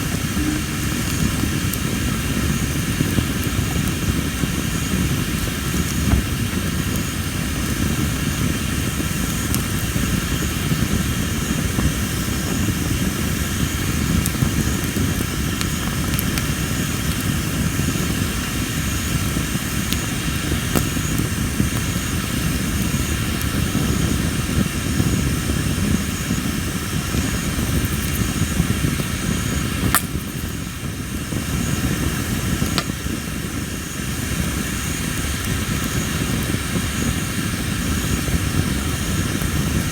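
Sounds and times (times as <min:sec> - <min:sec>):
logs burning with crackles and pops: 0:00.0 - 0:39.9.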